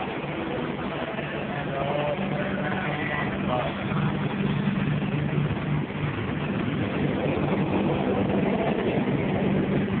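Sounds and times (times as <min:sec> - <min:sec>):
heavy engine idling: 0:00.0 - 0:10.0.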